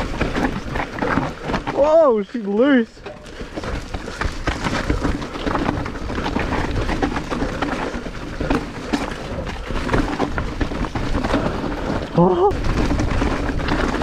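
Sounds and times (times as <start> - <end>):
bike clattering and rattling: 0.0 - 14.0
tyres crunching on dirt: 0.0 - 14.0.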